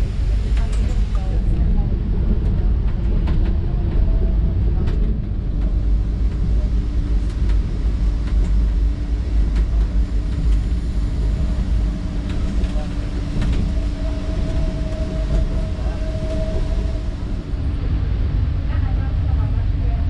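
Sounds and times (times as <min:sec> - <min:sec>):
steady low tone: 0:00.0 - 0:20.0
train wheels rumbling on rail: 0:00.0 - 0:20.0.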